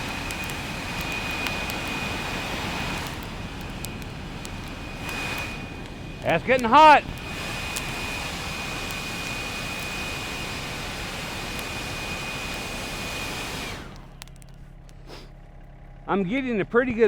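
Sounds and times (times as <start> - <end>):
blower rushing with high whine: 0.0 - 15.2
low engine hum: 0.0 - 17.0.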